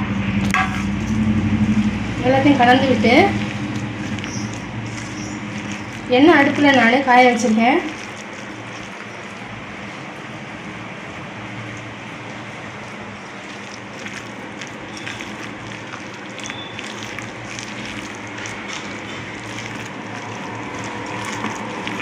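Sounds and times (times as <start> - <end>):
thick batter being stirred: 0.9 - 10.1, 11.7 - 22.0.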